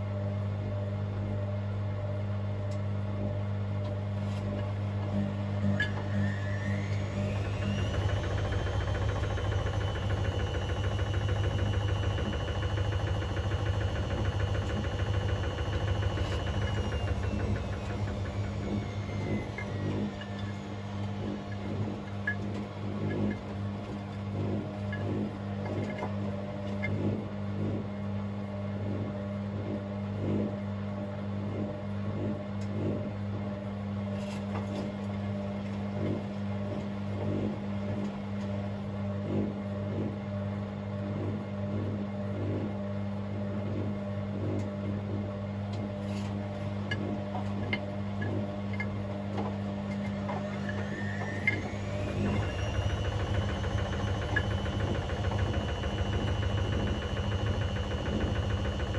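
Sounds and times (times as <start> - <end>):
steady hum: 0.0 - 58.9
washing machine motor whine: 0.0 - 58.9.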